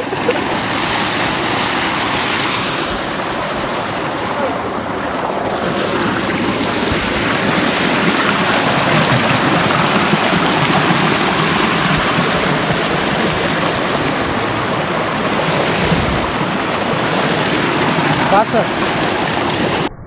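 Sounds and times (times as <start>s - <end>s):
water gushing into a concrete tank: 0.0s - 19.9s.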